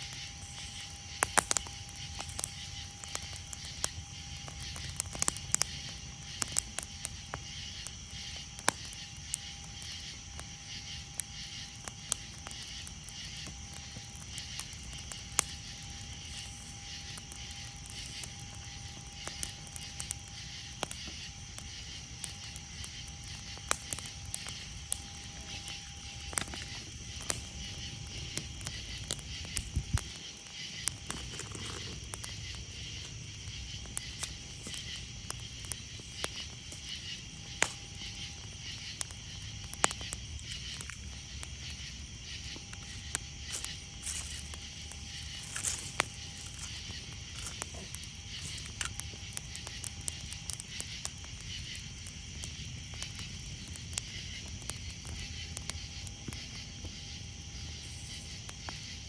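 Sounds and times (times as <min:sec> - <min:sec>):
campfire crackling and popping: 0:00.0 - 0:59.0
night insects calling: 0:00.0 - 0:59.0.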